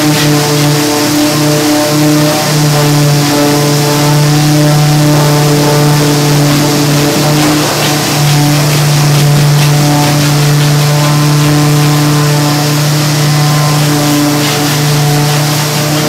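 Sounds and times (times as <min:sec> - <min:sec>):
machine drone with low hum: 0:00.0 - 0:16.0.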